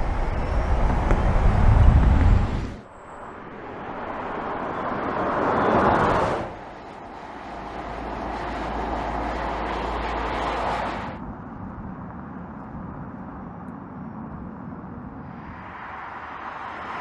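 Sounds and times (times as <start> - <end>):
rolling noise with low hum: 0.0 - 17.0.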